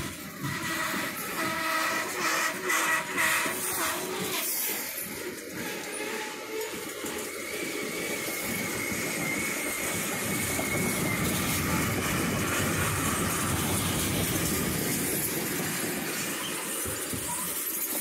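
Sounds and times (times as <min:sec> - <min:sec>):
faint high wheel squeal: 0:00.0 - 0:18.0
freight train rolling past: 0:00.0 - 0:18.0.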